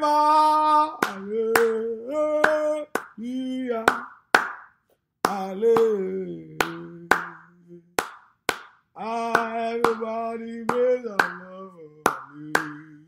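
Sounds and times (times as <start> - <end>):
person chanting: 0.0 - 4.3, 5.2 - 8.1, 9.0 - 13.0
hands clapping a beat: 0.9 - 13.0.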